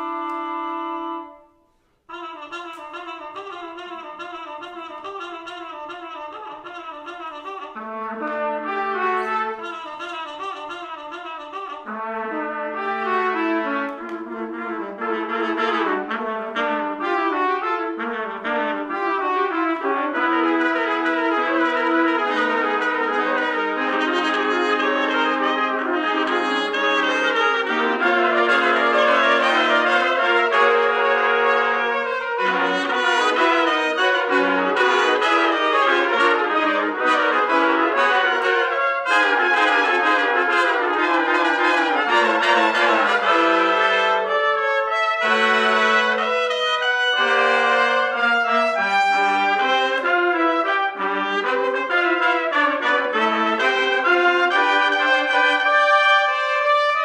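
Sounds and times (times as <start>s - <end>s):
trumpet ensemble playing: 0.0s - 57.0s.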